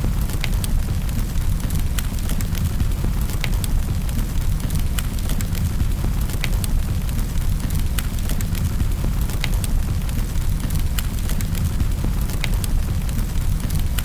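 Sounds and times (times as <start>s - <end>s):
fire pops and snaps: 0.0s - 14.0s
wood fire crackling: 0.0s - 14.0s.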